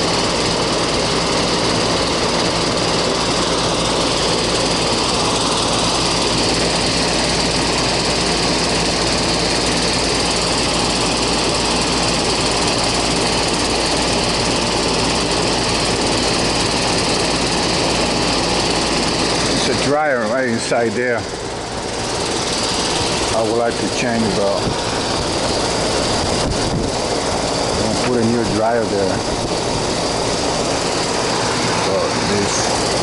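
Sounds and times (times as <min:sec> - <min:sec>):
compressor humming: 0:00.0 - 0:33.0
fan rushing: 0:00.0 - 0:33.0.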